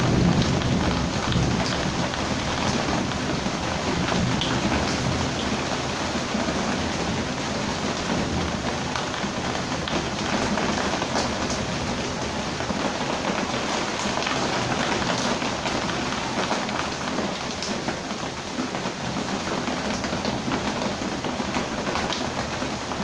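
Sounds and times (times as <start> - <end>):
heavy rain hissing: 0.0 - 23.0
loud raindrop: 0.0 - 23.0.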